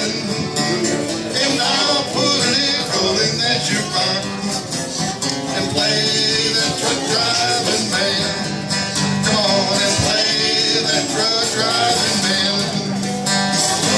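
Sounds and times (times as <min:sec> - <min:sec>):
person singing: 0:00.0 - 0:13.9
strummed acoustic guitar: 0:00.0 - 0:13.9.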